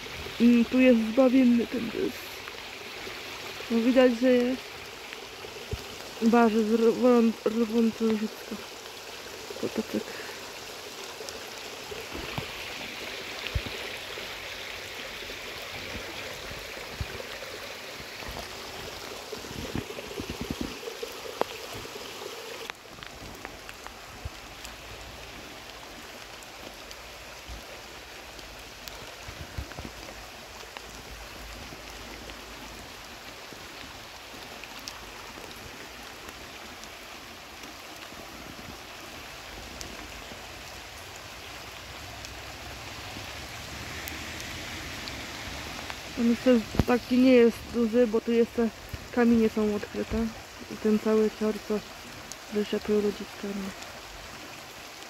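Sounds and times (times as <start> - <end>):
hiss of fine rain: 0.0 - 55.0
stream rushing over stones: 0.0 - 55.0
small drip ticks: 0.7 - 55.0.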